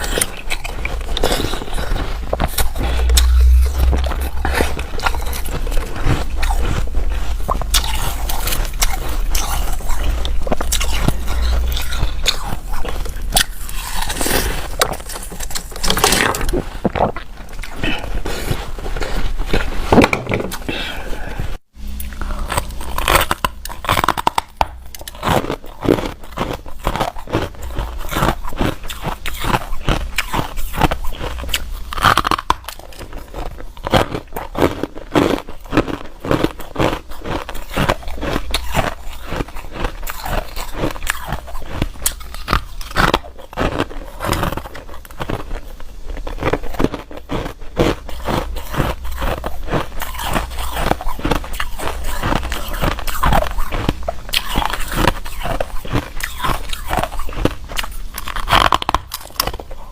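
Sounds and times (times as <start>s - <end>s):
person chewing hard ice: 0.0s - 59.9s.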